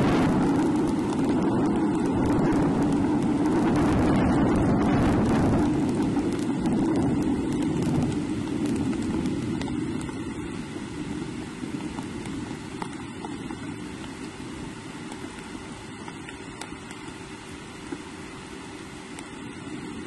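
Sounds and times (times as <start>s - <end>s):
rain and wind rushing: 0.0s - 20.0s.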